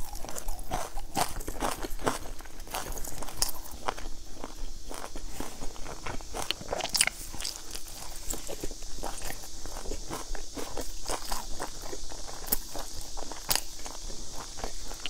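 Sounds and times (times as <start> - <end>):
chewing crunchy baked cake: 0.0 - 15.0.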